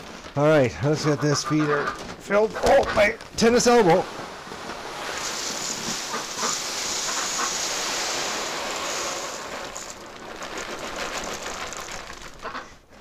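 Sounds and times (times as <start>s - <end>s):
feed pellets pouring: 0.0s - 1.2s, 3.3s - 12.9s.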